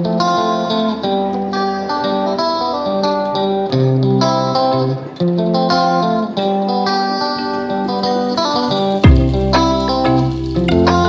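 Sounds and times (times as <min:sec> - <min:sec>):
plucked guitar background music: 0:00.0 - 0:11.0.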